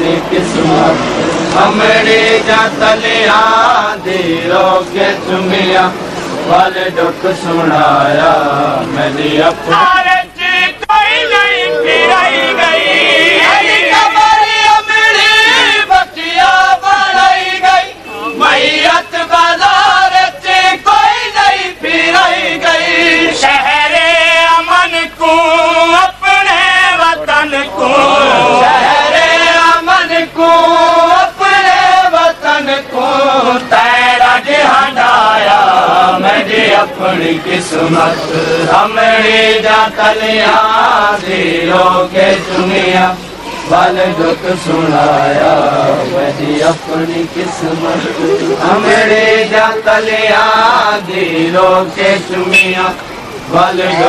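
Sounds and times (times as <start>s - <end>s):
person chanting a lament: 0.0s - 52.6s.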